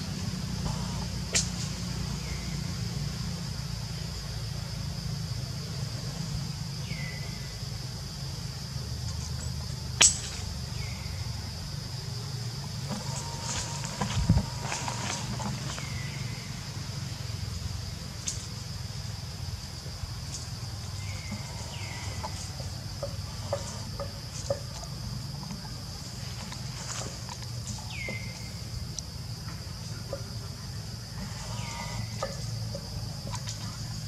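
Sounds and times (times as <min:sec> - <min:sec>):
high-pitched insect drone: 0:00.0 - 0:34.0.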